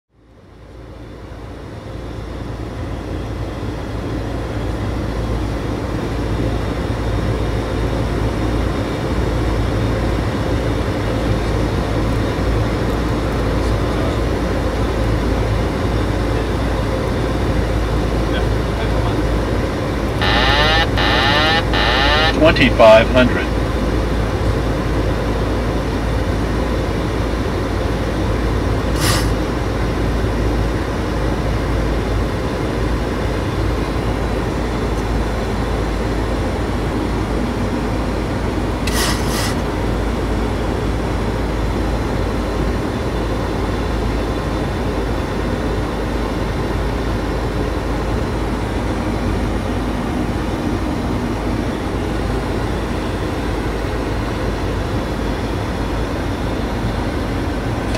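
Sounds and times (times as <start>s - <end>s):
jet engines low rumble: 0.1s - 57.9s.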